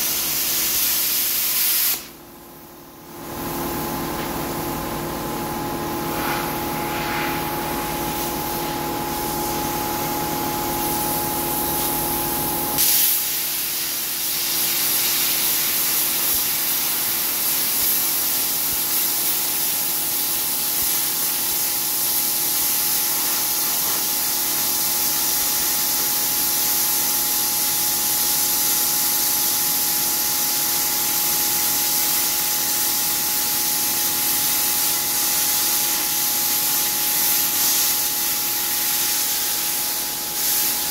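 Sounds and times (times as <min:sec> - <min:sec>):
plasma torch hissing: 0:00.0 - 0:02.2, 0:06.0 - 0:40.9
plasma cutter hum: 0:00.0 - 0:40.9.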